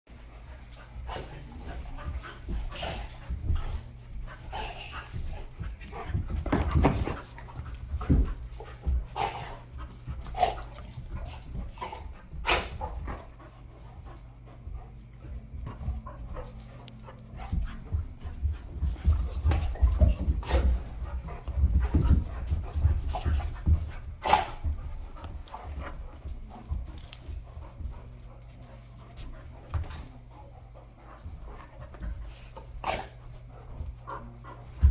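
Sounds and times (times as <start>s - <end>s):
dogs panting: 0.1s - 34.9s
dogs scuffling and bumping: 0.1s - 34.9s.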